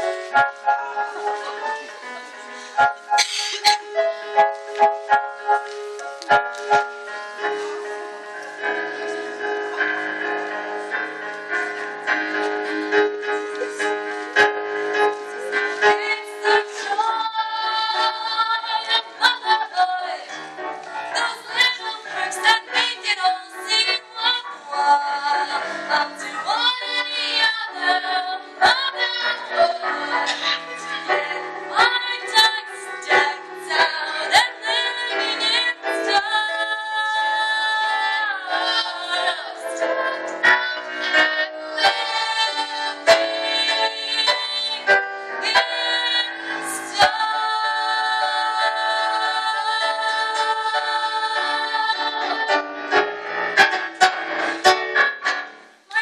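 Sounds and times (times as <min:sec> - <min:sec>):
instrumental accompaniment: 0:00.0 - 0:56.0.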